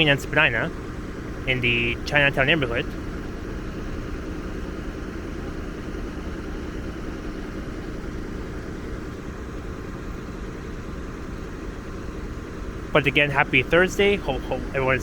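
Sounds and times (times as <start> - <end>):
faint hum: 0.0 - 15.0
vehicles idling: 0.0 - 15.0.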